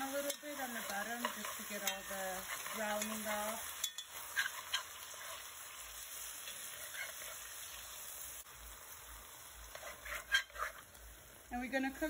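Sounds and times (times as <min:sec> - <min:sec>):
meat and vegetables sizzling: 0:00.0 - 0:12.0.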